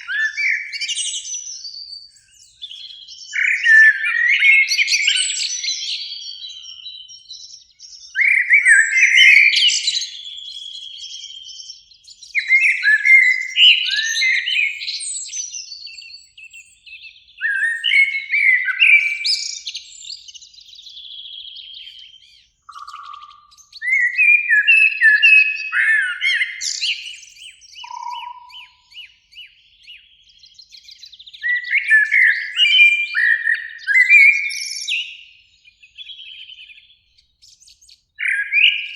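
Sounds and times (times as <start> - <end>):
blackbird singing: 0.0 - 38.9.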